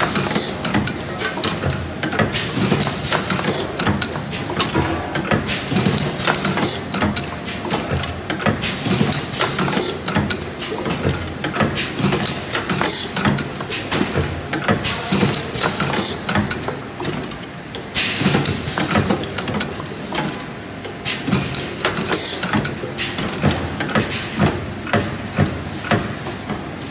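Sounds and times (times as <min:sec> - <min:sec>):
machine clattering: 0:00.0 - 0:26.9.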